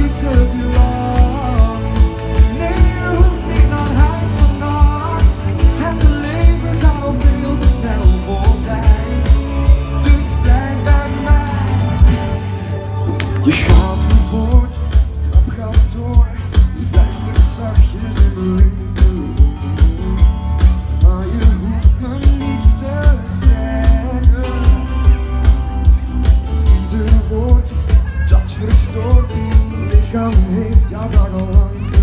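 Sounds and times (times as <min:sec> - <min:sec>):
pop song through stage speakers: 0:00.0 - 0:32.0.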